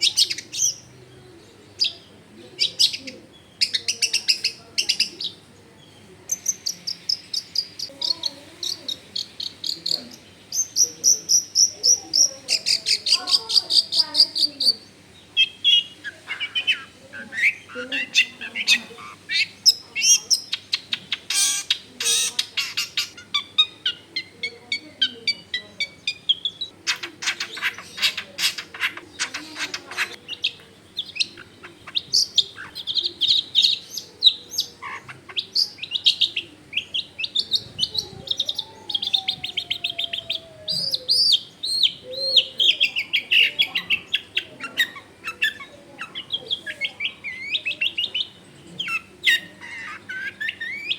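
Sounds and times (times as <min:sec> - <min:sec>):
bird singing: 0:00.0 - 0:50.9.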